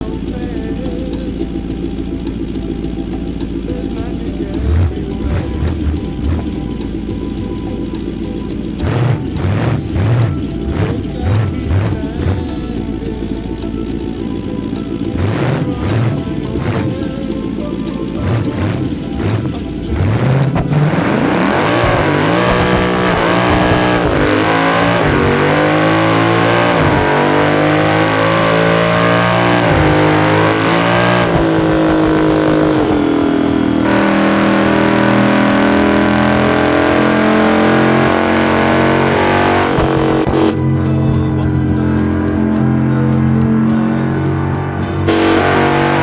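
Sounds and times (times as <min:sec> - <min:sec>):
car engine accelerating hard: 0:00.0 - 0:46.0.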